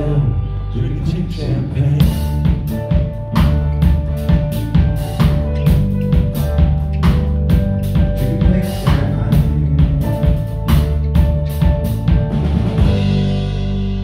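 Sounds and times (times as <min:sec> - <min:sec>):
rock band playing: 0:00.0 - 0:14.0
drum kit beat: 0:01.9 - 0:14.0.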